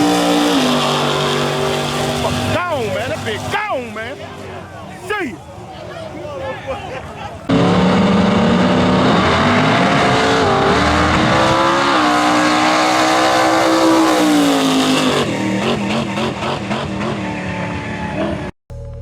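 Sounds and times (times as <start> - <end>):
race cars at full throttle: 0.0 - 18.5.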